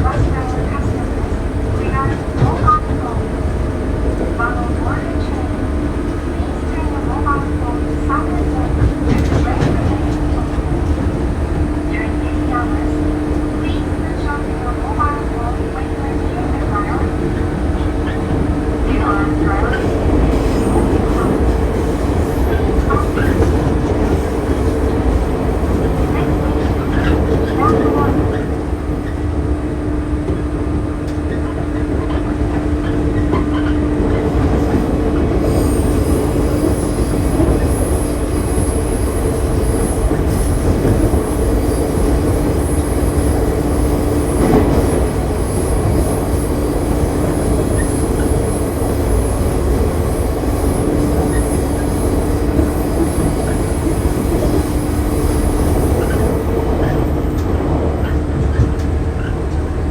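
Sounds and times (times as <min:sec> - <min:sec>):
train wheels rumbling: 0:00.0 - 0:59.9.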